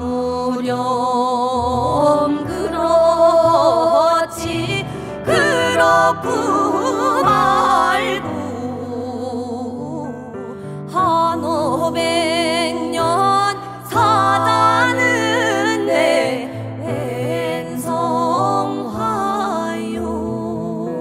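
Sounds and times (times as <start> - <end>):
voices singing in harmony: 0.0 - 21.0
piano accompaniment: 0.1 - 21.0.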